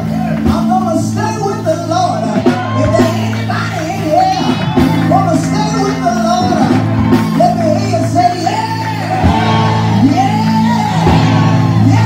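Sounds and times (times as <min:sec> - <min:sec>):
low keyboard chords: 0:00.0 - 0:12.0.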